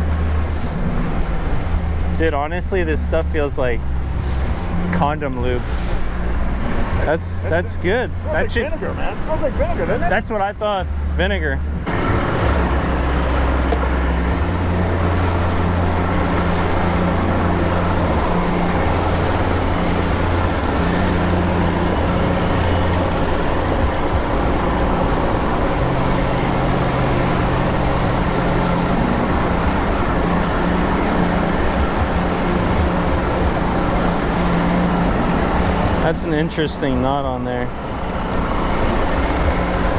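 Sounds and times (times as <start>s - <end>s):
outboard motor running: 0.0s - 39.9s
water rushing from wake: 0.0s - 39.9s
wind: 0.0s - 39.9s.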